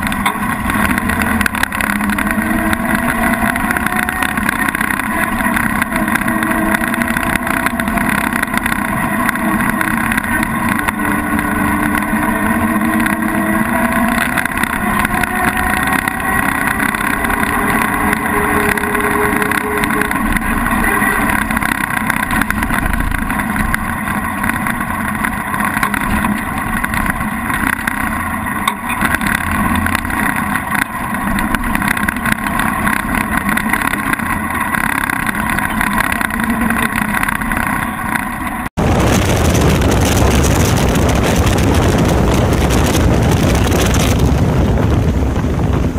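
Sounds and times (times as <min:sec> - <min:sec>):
car engine running: 0:00.0 - 0:45.9.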